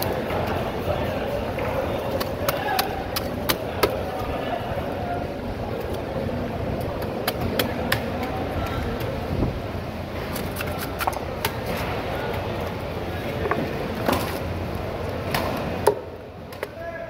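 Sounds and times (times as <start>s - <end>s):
steady background din: 0.0s - 17.0s.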